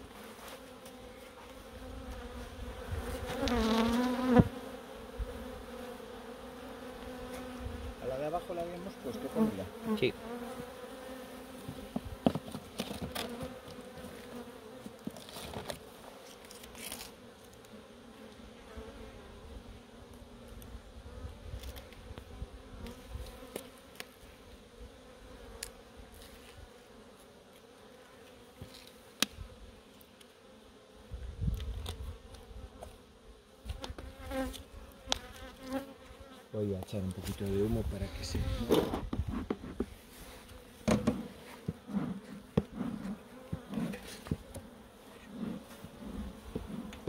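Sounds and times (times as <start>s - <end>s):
bees buzzing: 0.0s - 31.4s, 32.0s - 36.6s, 37.3s - 47.0s.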